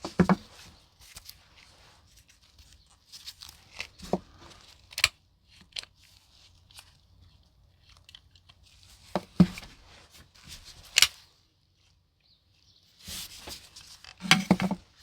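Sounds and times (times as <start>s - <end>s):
rustling and crinkling handling noise: 0.0s - 15.0s.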